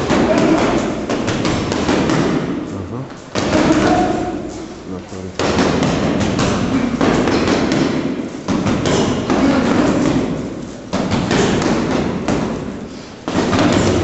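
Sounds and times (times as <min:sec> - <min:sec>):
punches thudding into punching bag: 0:00.0 - 0:02.6, 0:03.3 - 0:04.4, 0:05.4 - 0:14.0.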